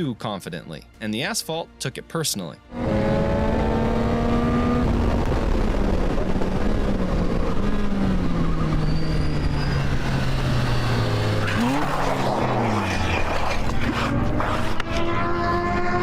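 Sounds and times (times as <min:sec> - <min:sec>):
heavy wind rumble: 0:02.8 - 0:16.0.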